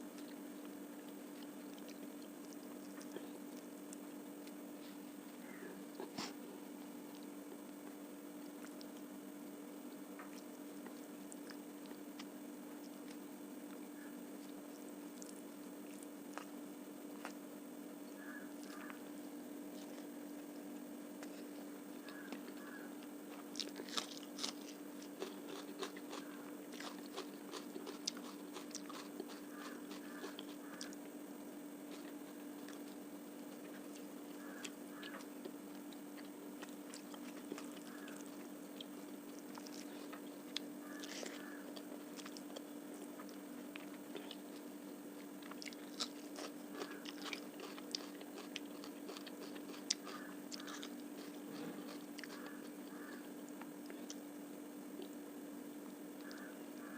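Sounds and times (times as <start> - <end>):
person chewing food: 0.1 - 5.1, 7.0 - 9.1, 10.2 - 13.8, 14.4 - 17.4, 19.7 - 31.0, 31.9 - 54.2.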